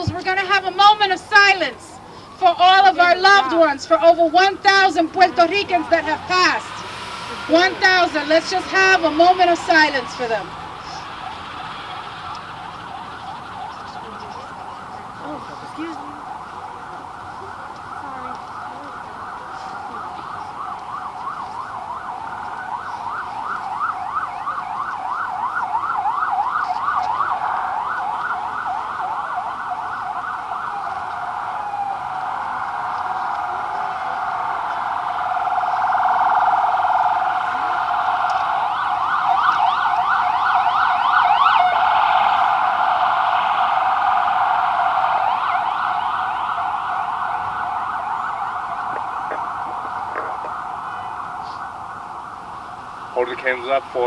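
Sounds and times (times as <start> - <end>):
siren yelping: 0.0 - 54.0.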